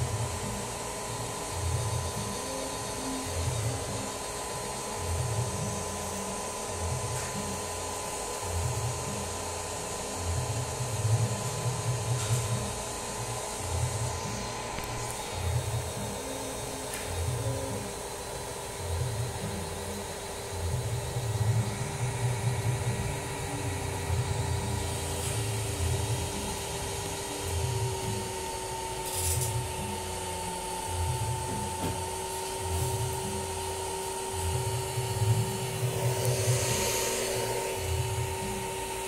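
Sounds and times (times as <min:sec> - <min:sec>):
inverter hum and whine: 0:00.0 - 0:39.0.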